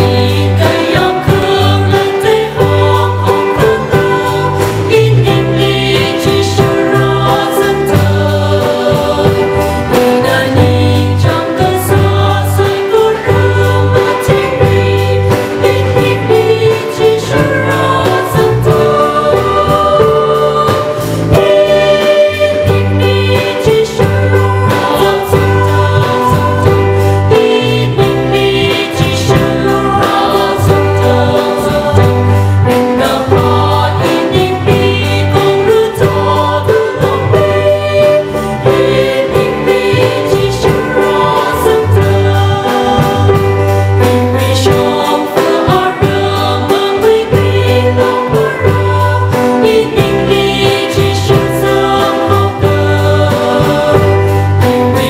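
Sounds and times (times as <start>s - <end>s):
bass: 0.0s - 55.0s
choir singing a hymn: 0.0s - 55.0s
drum kit beat: 0.0s - 55.0s
guitar: 0.0s - 55.0s
keyboard: 0.0s - 55.0s.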